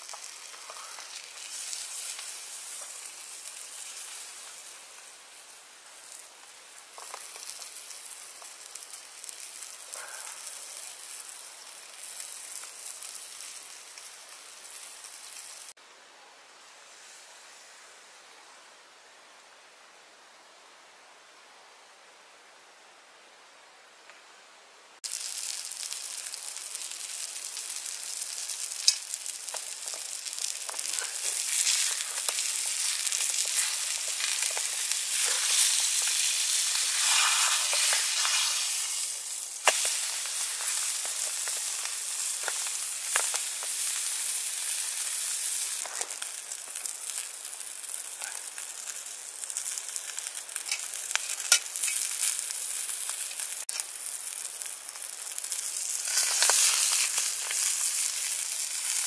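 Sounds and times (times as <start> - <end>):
fish sizzling in a frying pan: 0.0 - 15.8, 25.0 - 59.0.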